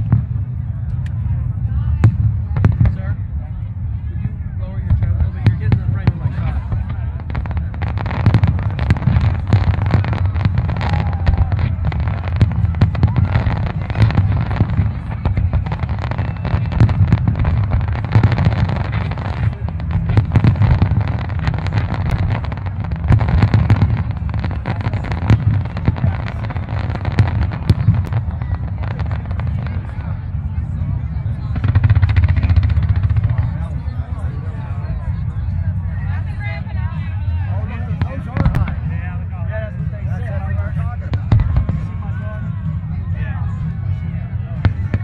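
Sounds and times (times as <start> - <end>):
low rumble: 0.0 - 45.0
fireworks bursting and crackling: 4.2 - 45.0.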